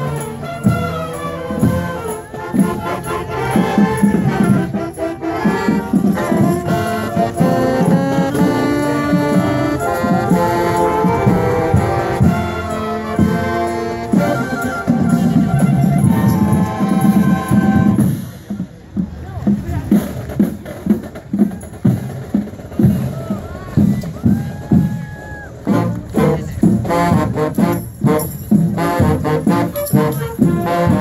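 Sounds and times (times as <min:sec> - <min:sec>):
marching band playing: 0:00.0 - 0:31.0
percussion steady beat: 0:00.0 - 0:31.0.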